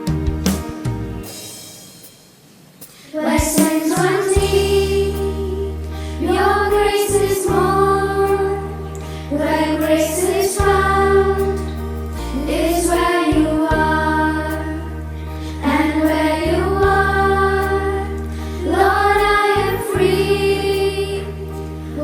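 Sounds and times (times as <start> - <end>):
keyboard accompaniment: 0.0 - 22.0
voices singing devotional song: 3.0 - 22.0.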